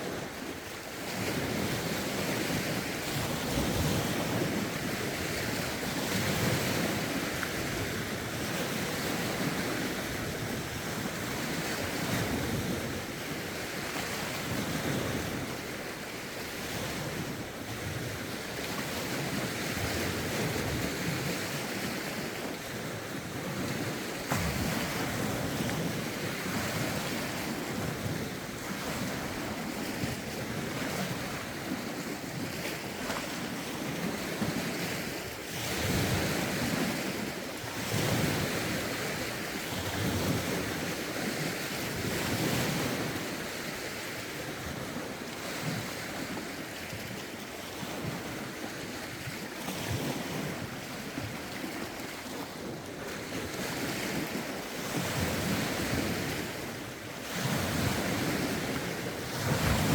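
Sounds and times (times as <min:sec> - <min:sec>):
lake waves washing ashore: 0:00.0 - 0:59.9
wind buffeting microphone: 0:00.0 - 0:59.9.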